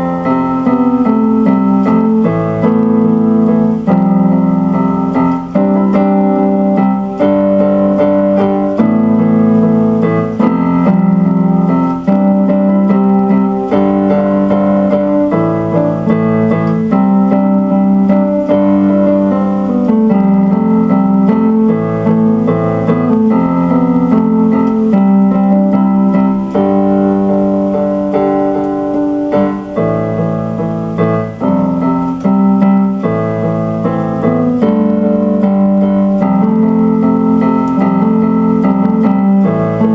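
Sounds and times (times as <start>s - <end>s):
electric piano chords: 0.0s - 39.9s.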